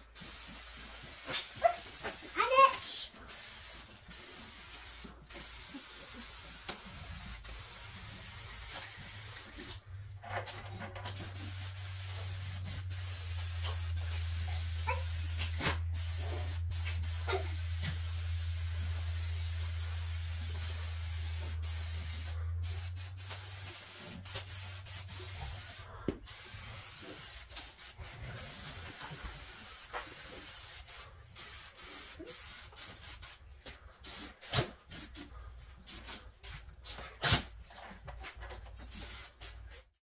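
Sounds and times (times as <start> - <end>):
spray paint can hissing: 0.0 - 9.8, 11.1 - 36.6, 38.8 - 39.9.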